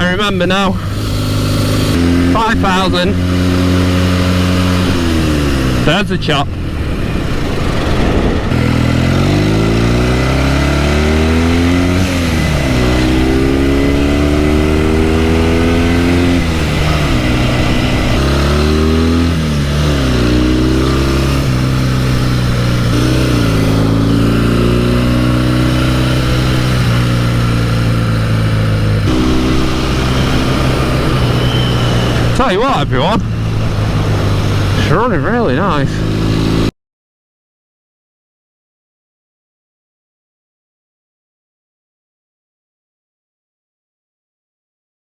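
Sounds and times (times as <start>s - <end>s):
motorcycle engine accelerating through gears: 0.0s - 36.7s.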